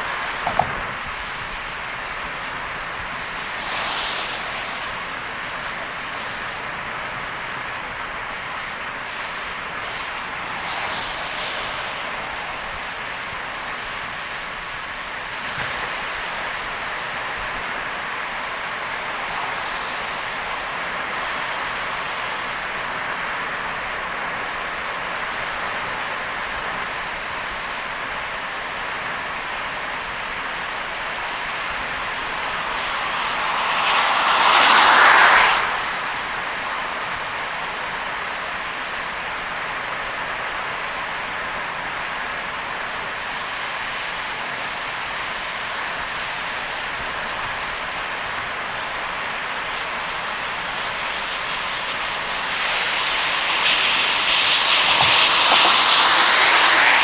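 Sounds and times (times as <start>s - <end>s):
rain: 0.0s - 57.0s
tyres on wet road: 0.0s - 57.0s.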